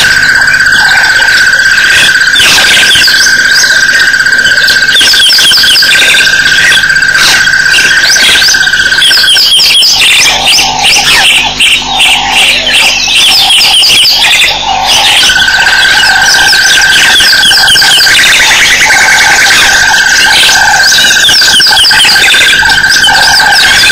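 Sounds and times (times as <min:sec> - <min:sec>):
chorus of high animal chirps: 0:00.0 - 0:23.9
steady high-pitched drone: 0:00.0 - 0:23.9.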